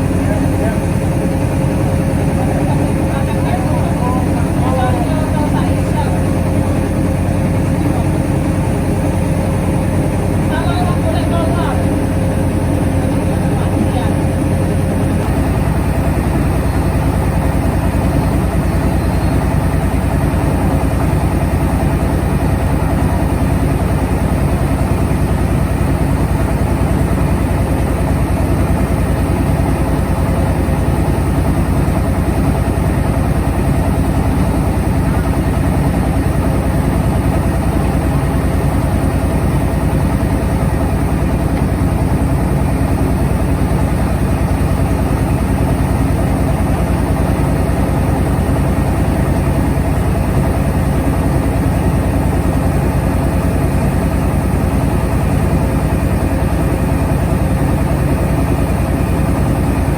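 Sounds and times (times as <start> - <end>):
rice mill engine running: 0.0 - 59.9.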